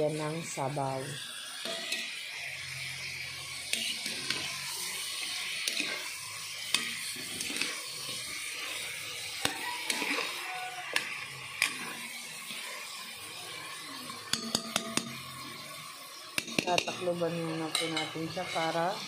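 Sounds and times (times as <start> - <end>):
chicken sizzling in a pot: 0.0 - 19.0
spatula scraping against a pot: 0.2 - 19.0.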